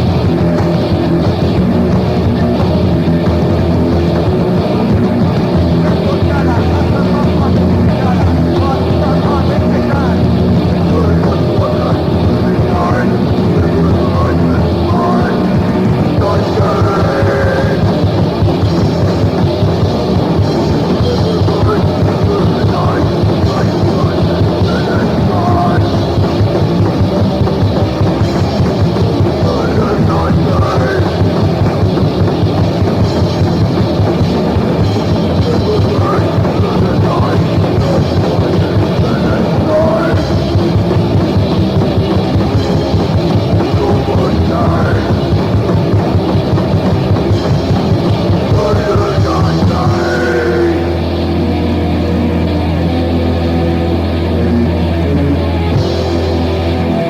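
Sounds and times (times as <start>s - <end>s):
bass guitar: 0.0s - 57.0s
distorted guitars: 0.0s - 57.0s
fast driving drums: 0.0s - 57.0s.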